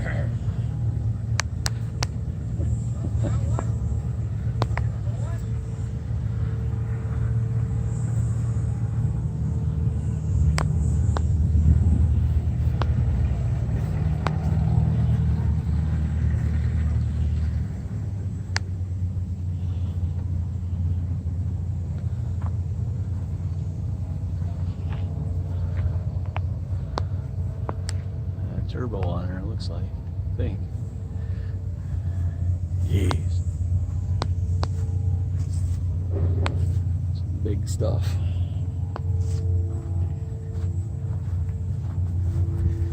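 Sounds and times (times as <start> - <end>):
large engine rumbling: 0.0 - 42.9.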